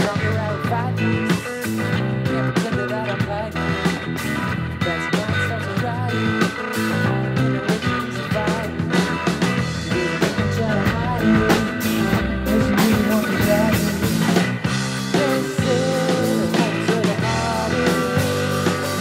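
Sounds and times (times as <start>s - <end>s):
drum kit: 0.0s - 19.0s
electric guitars: 0.0s - 19.0s.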